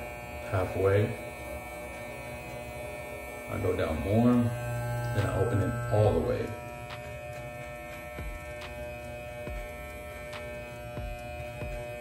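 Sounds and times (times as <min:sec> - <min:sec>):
electric hair clipper buzzing: 0:00.0 - 0:12.0.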